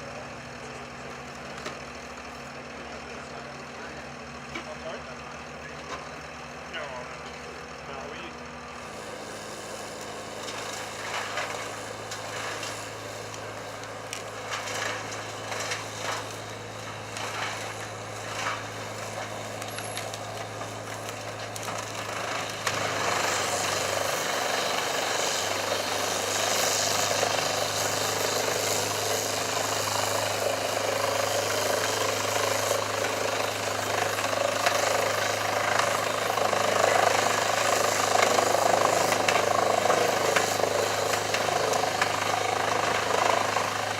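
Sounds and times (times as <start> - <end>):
heavy machinery engine running: 0.0 - 43.9.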